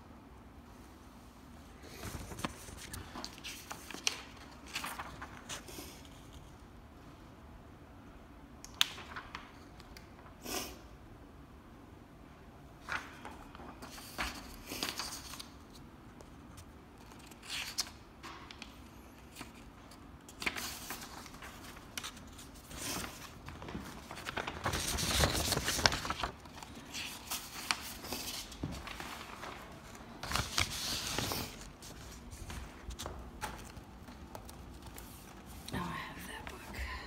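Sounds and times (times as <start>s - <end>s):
paper rustling and crinkling: 1.8s - 6.6s, 8.8s - 10.3s, 12.8s - 36.8s.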